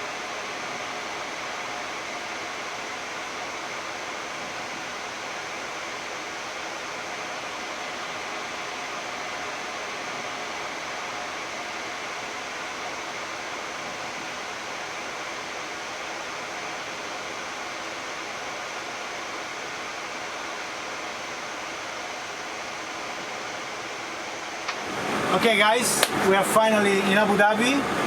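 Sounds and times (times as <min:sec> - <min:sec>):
air-conditioning and fan hiss: 0:00.0 - 0:28.0.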